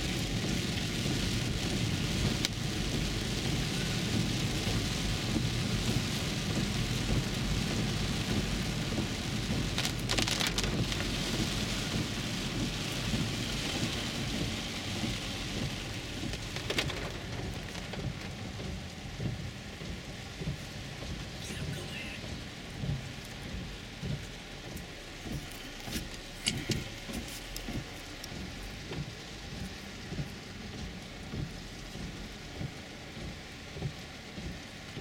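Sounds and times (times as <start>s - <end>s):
heavy rain drumming on car roof: 0.0s - 35.0s
tyres rumbling on wet road: 0.0s - 35.0s.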